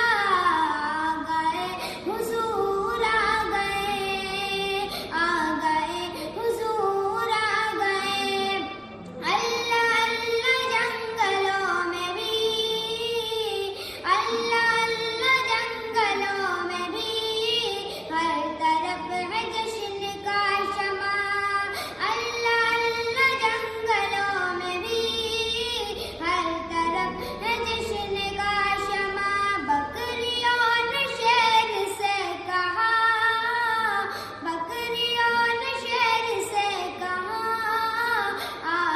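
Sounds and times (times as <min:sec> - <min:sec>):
high voice singing devotional song: 0:00.0 - 0:38.9.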